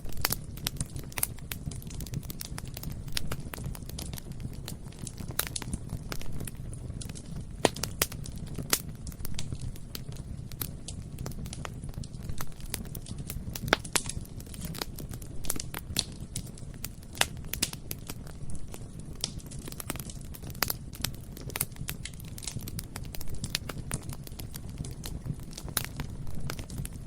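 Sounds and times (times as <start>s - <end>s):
bonfire crackling and popping: 0.0s - 27.0s.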